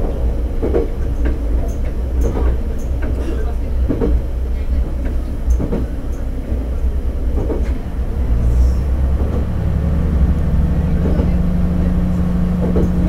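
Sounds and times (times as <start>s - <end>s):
railcar engine drone: 0.0s - 13.0s
wheels clacking over rail joints: 0.0s - 13.0s.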